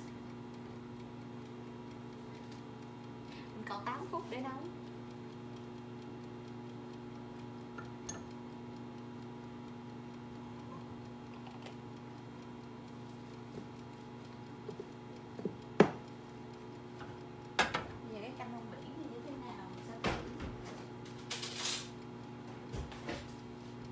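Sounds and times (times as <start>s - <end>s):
appliance hum: 0.0s - 23.9s
kitchen timer ticking: 0.0s - 23.9s.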